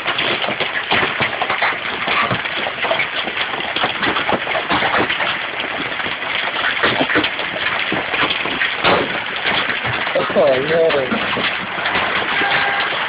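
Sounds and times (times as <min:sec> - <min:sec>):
hail clattering: 0:00.0 - 0:13.0.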